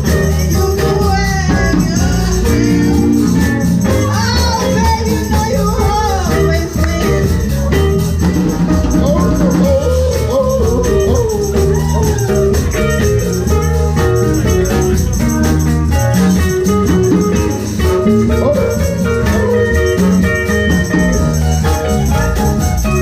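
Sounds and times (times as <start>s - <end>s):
live blues band: 0.0s - 23.0s
shaker rattle: 0.0s - 23.0s.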